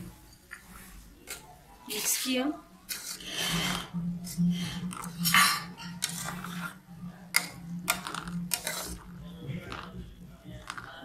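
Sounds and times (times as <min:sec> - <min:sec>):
metal spoon scraping a saucepan: 0:00.3 - 0:10.0.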